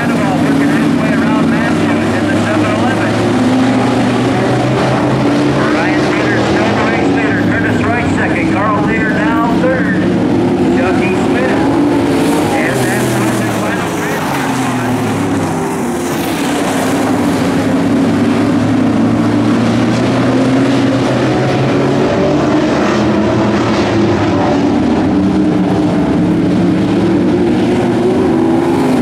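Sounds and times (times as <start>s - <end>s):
race car engines running hard: 0.0s - 29.0s.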